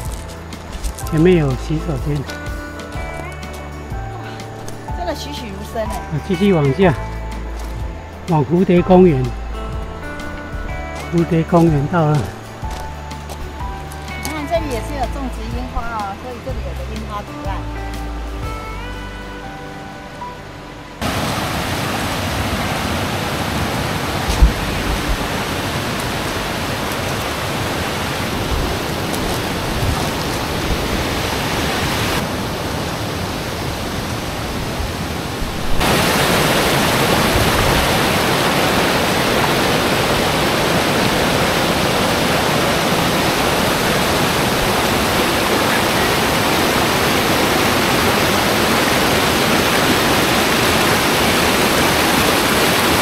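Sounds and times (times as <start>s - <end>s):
creek water rushing: 0.0s - 20.4s, 21.0s - 53.0s.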